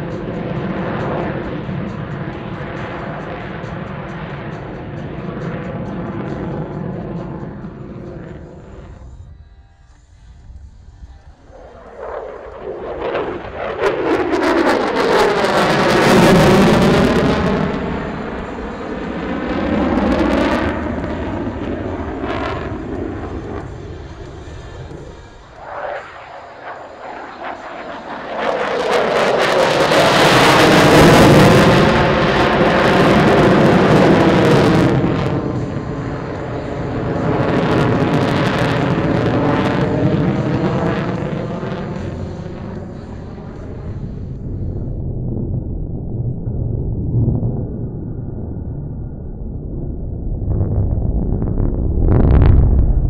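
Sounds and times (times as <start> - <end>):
jet engines roaring: 0.0 - 9.3, 10.5 - 53.0.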